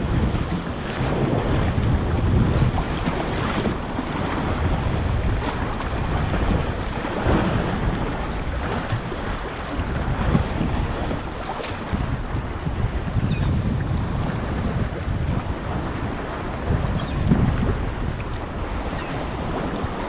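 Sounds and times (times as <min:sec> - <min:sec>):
sea waves washing: 0:00.0 - 0:20.0
wind buffeting microphone: 0:00.0 - 0:20.0.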